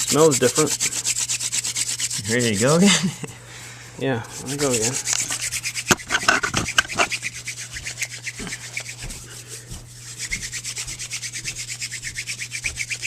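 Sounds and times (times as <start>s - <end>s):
rasping of wood on wood: 0.0s - 3.0s, 4.2s - 13.0s.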